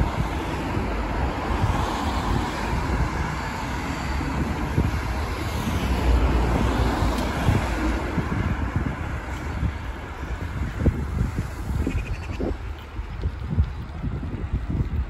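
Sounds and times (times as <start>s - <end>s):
passing cars: 0.0s - 15.0s
wind buffeting microphone: 0.0s - 15.0s.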